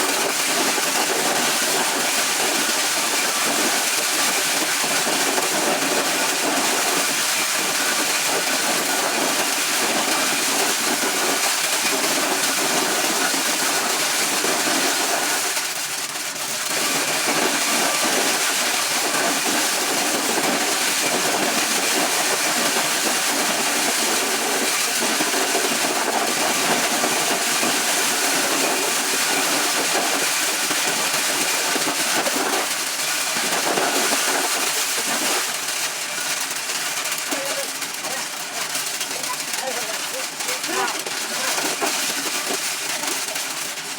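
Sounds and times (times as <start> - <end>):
corn-shelling machine running: 0.0 - 43.9.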